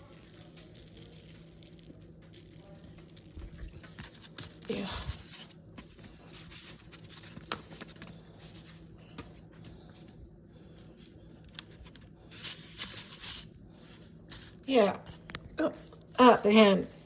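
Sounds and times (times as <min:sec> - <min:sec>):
rustling: 0:00.0 - 0:10.2, 0:10.8 - 0:15.3.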